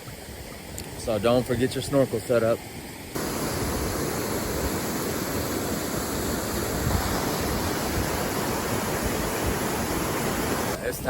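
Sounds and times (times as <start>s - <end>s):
waterfall rushing into pool: 1.6s - 11.0s.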